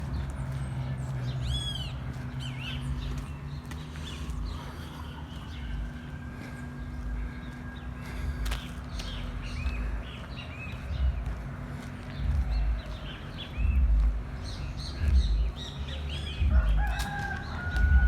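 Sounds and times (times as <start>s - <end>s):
low rumble: 0.0s - 18.0s
small birds chirping: 0.0s - 18.0s.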